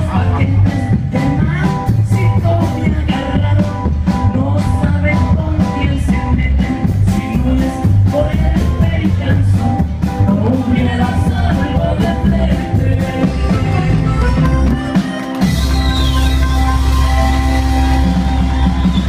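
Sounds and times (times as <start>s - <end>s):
drums beat: 0.0s - 19.0s
heavy bass line: 0.0s - 19.0s
live band playing: 0.0s - 19.0s.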